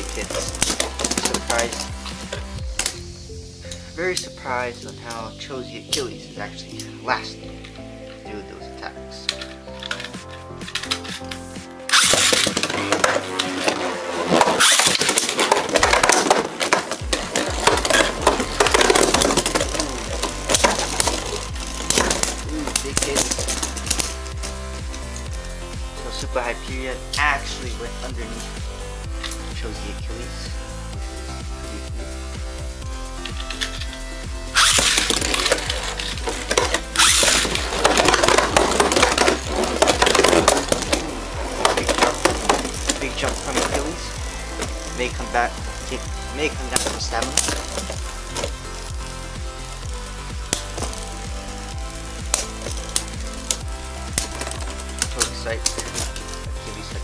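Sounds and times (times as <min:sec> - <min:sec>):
electronic music: 0:00.0 - 0:57.0
spinning tops clashing: 0:09.4 - 0:30.9, 0:31.6 - 0:57.0.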